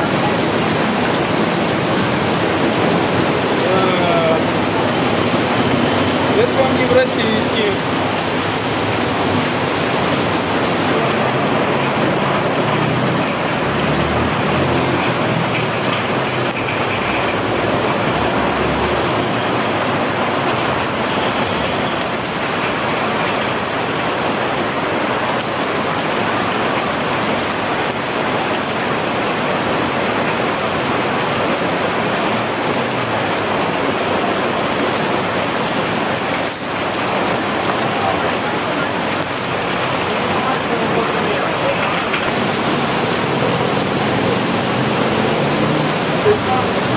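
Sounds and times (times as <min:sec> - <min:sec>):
heavy rain on flooded street: 0:00.0 - 0:46.9
vehicle driving through floodwater: 0:00.0 - 0:46.9.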